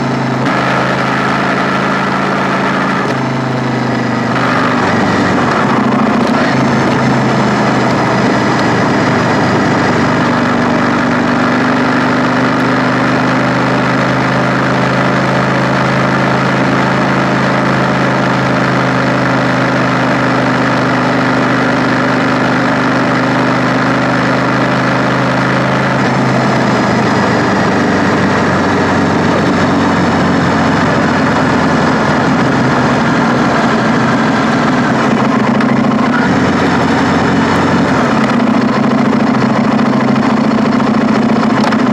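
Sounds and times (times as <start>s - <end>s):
constant rushing noise: 0.0s - 41.9s
motorcycle engine running: 0.0s - 41.9s.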